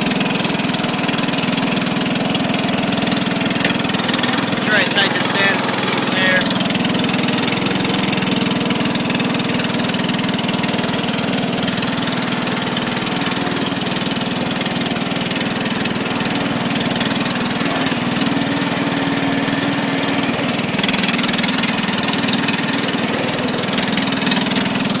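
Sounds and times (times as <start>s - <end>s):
lawn tractor engine idling: 0.0s - 25.0s.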